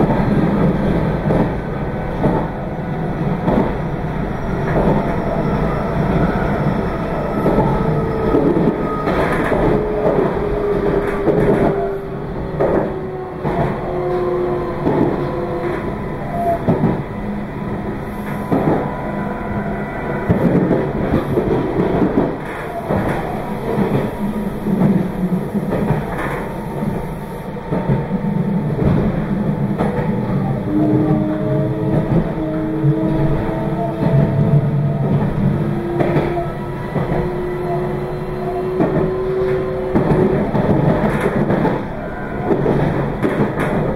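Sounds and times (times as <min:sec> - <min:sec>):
train rumbling on track: 0:00.0 - 0:43.9.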